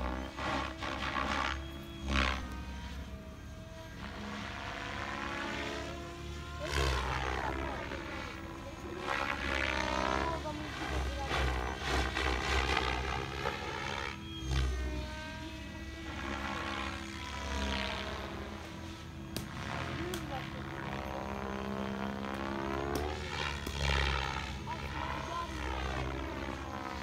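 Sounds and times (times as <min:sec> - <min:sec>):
model helicopter rotor whine: 0:00.0 - 0:27.0.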